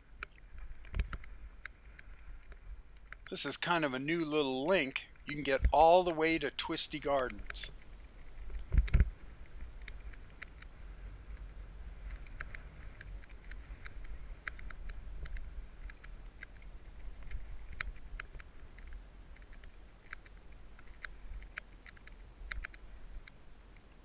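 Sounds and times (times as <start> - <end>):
bike clicks and ticks: 0.1 - 3.3, 7.0 - 23.4.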